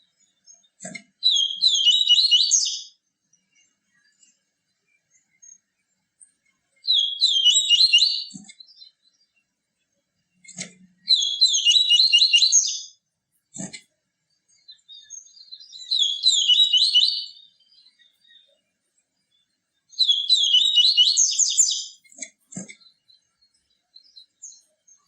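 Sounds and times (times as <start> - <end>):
bird twittering song: 0.0 - 25.0.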